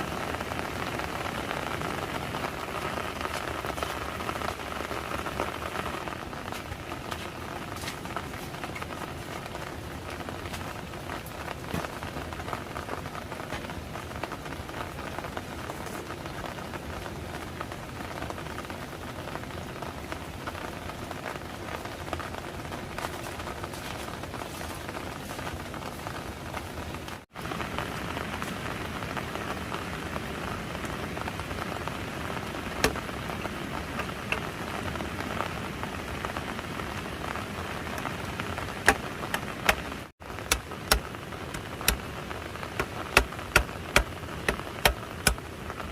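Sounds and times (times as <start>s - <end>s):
steady rain patter: 0.0s - 45.9s.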